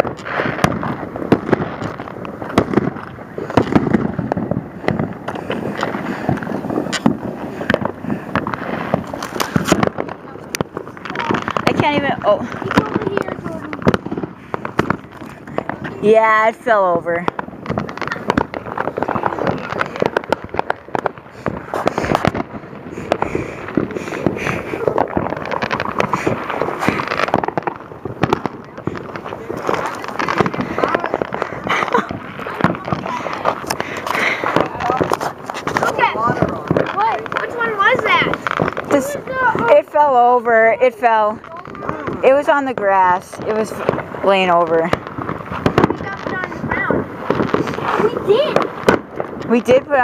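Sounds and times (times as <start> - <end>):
continuous din: 0.0 - 50.0
fireworks pops and bangs: 0.0 - 50.0.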